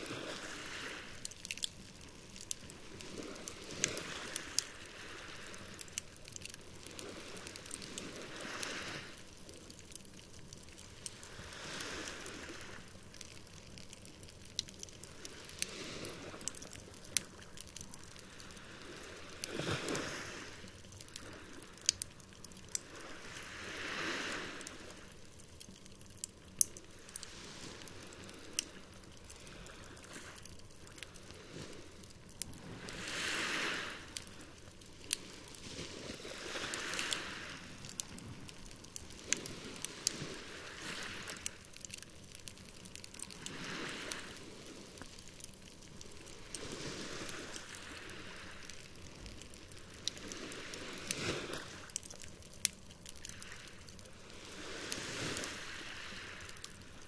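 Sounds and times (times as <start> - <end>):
campfire crackling and popping: 0.0 - 57.0
small waves washing onto shore: 0.0 - 57.0.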